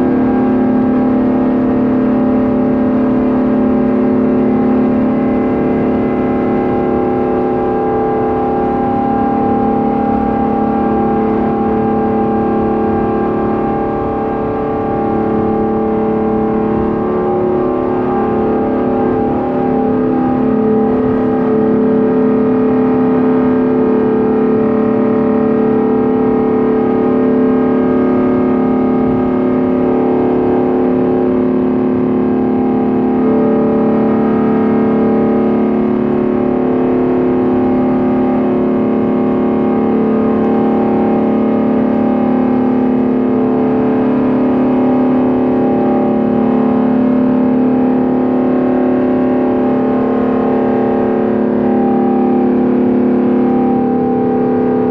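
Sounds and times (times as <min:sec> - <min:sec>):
jet engines droning in cabin: 0:00.0 - 0:54.9.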